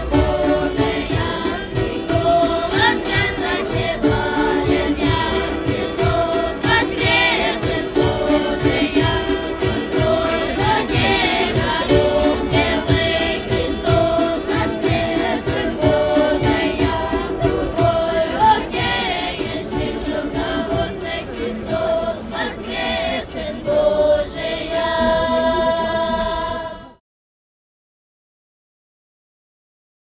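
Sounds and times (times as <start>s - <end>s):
church choir singing a hymn: 0.0s - 27.0s.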